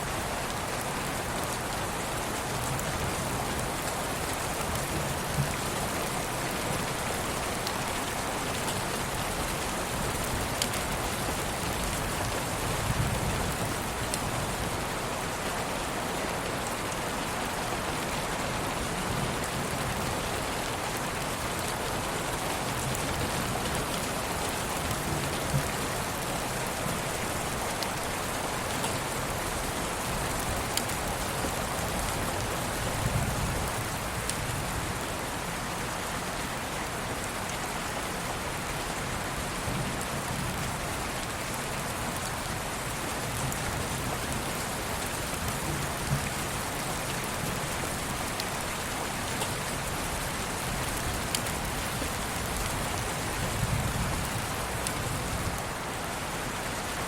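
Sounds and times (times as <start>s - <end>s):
raindrops: 0.0s - 57.0s
steady rain: 0.0s - 57.0s.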